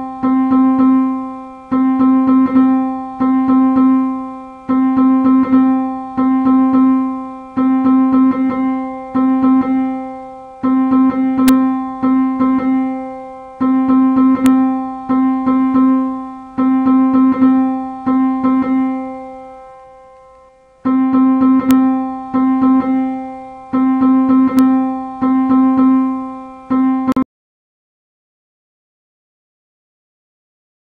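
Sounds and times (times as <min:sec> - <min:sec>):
repeated piano note: 0:00.0 - 0:27.2.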